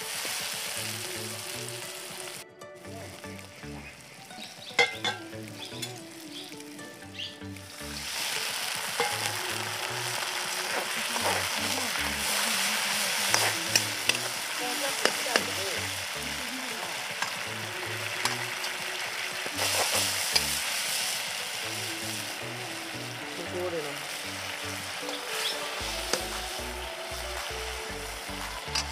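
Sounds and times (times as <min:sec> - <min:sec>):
water sizzling in hot pan: 0:00.0 - 0:28.9.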